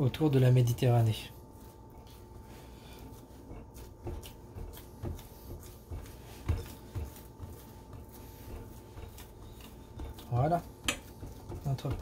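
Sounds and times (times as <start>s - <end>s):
hands patting dough: 0.0s - 12.0s.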